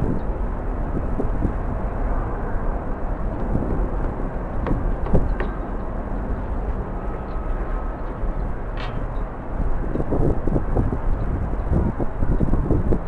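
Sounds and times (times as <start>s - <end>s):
distant jet airliners: 0.0s - 13.0s
strong wind on microphone: 0.0s - 13.0s.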